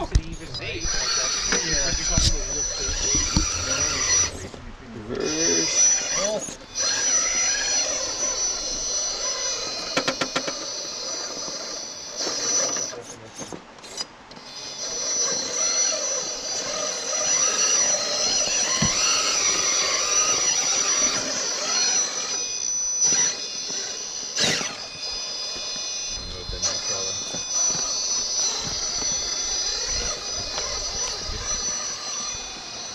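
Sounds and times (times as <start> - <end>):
rc truck motor whining: 0.0 - 13.2, 13.8 - 32.9.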